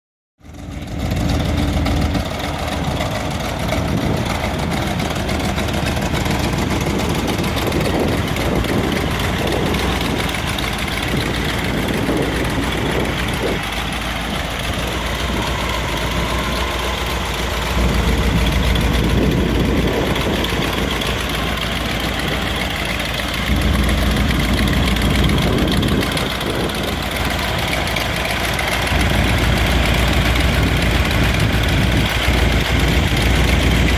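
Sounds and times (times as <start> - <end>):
truck engine idling: 0.4 - 33.9.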